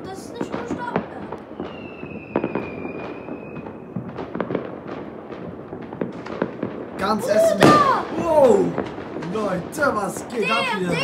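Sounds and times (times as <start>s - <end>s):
fireworks and firecrackers banging: 0.0s - 11.0s
whistling firework: 0.1s - 9.6s.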